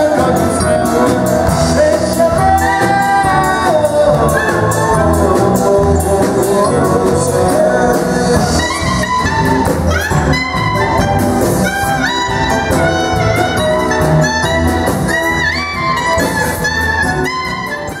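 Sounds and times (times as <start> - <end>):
folk-rock band music: 0.0 - 18.0.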